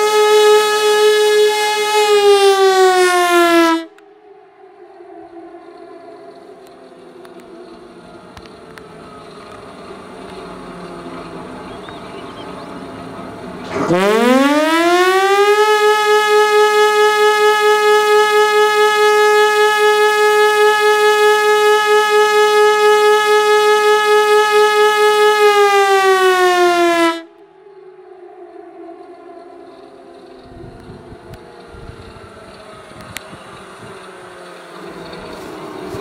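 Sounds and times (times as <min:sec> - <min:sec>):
pneumatic siren wailing: 0:00.0 - 0:36.0.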